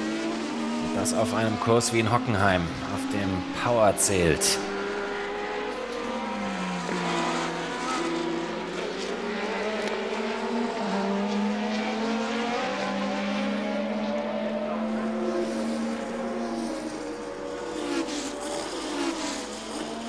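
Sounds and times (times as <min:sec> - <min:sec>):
racing car engine at speed: 0:00.0 - 0:20.0.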